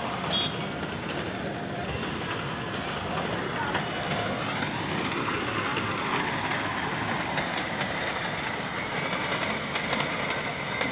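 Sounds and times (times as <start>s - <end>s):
small train wheels rumbling on rail: 0.0s - 10.9s.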